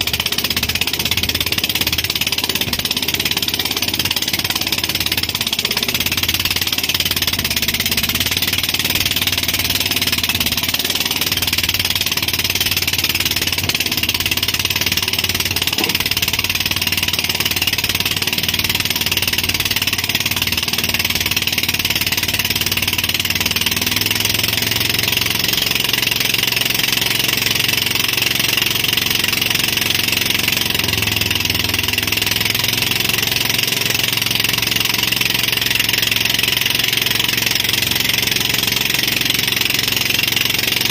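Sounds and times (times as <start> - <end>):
boat engine humming: 0.0 - 40.9.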